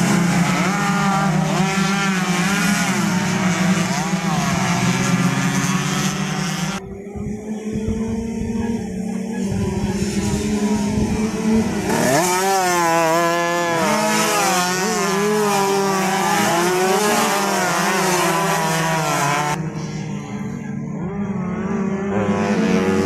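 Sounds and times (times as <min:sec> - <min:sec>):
race motorcycles revving: 0:00.0 - 0:23.0.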